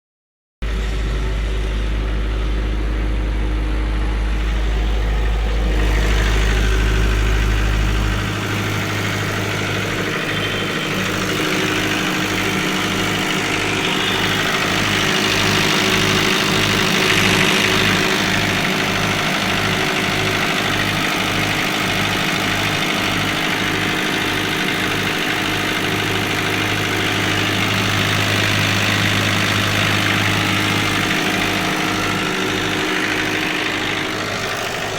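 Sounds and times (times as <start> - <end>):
diesel engine idling: 0.6 - 34.9
regular pulsing beat: 4.2 - 34.9.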